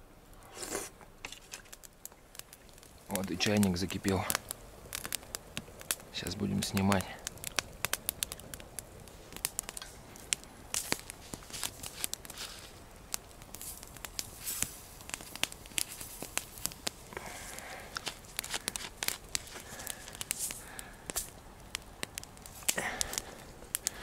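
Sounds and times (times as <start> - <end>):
campfire crackling and popping: 0.0 - 24.0
rustling of dry leaves: 0.4 - 24.0.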